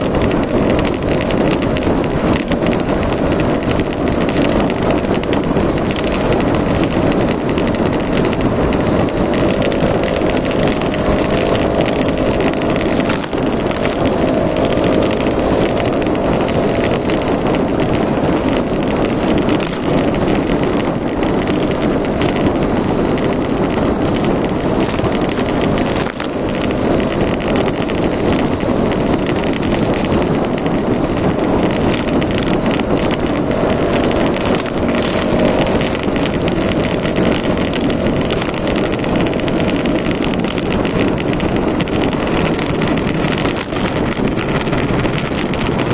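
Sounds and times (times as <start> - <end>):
scooter engine running: 0.0 - 45.9
wind on microphone: 0.0 - 45.9.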